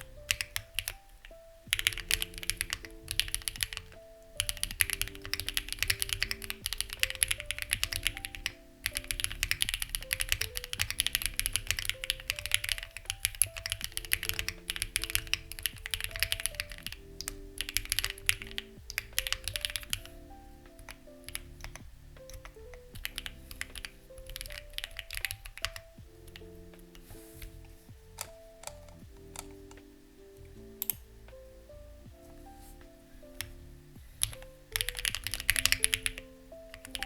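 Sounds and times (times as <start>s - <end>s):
mechanical keyboard typing: 0.0s - 27.5s, 28.1s - 31.0s, 34.2s - 37.0s
soft background music: 0.0s - 37.0s.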